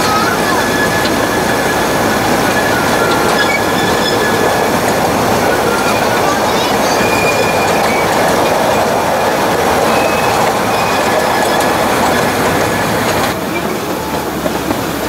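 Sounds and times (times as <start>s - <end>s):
faint wheel squeal: 0.0s - 15.0s
train wheels rumbling on track: 0.0s - 15.0s.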